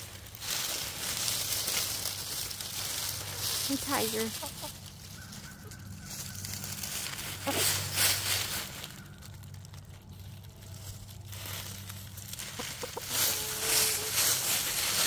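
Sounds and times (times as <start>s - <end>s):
dry leaves rustling and crunching: 0.0s - 15.0s.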